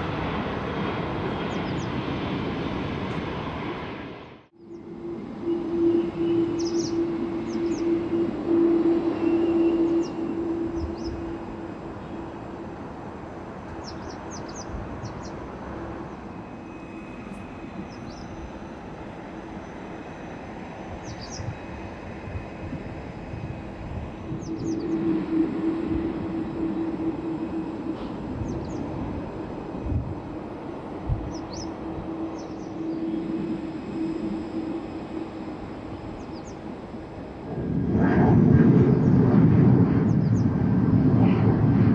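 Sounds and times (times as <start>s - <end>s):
jet engines humming: 0.0s - 41.9s.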